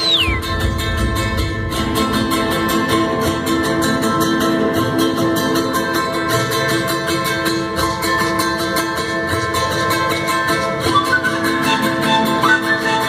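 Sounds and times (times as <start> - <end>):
strummed acoustic string instruments: 0.0 - 13.0.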